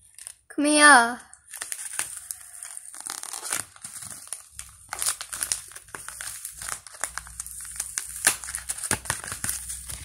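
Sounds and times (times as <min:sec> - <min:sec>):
packaging crinkling and rustling: 0:00.0 - 0:00.5, 0:01.3 - 0:10.0.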